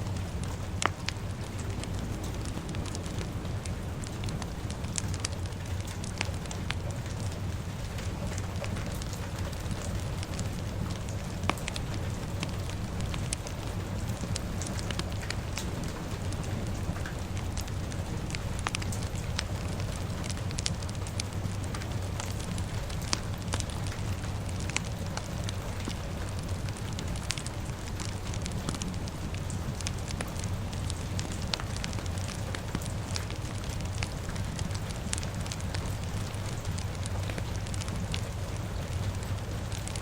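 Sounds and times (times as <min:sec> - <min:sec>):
low rumble: 0:00.0 - 0:39.8
fire crackling and popping: 0:00.0 - 0:40.0
rain hiss: 0:00.0 - 0:40.0.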